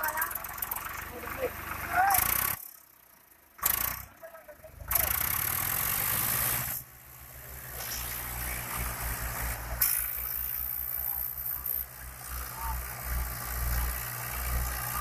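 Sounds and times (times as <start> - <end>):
diesel tractor engine throbbing: 0.0 - 2.7, 3.6 - 15.0.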